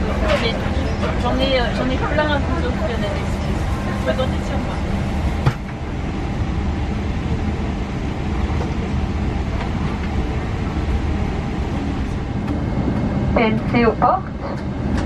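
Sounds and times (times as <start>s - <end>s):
aircraft cabin ventilation hum: 0.0s - 15.0s.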